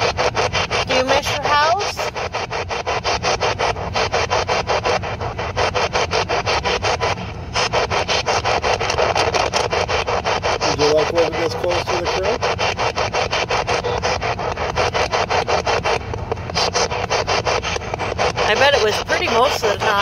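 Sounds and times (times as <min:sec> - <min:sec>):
pulsing radio static: 0:00.0 - 0:20.0
snatch of broadcast tone: 0:00.0 - 0:20.0.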